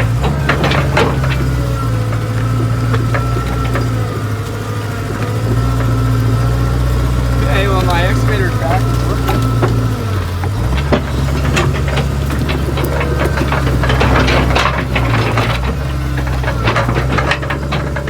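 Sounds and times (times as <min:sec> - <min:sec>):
diesel engine under load: 0:00.0 - 0:18.0
steel tracks clanking and rattling: 0:00.0 - 0:18.0.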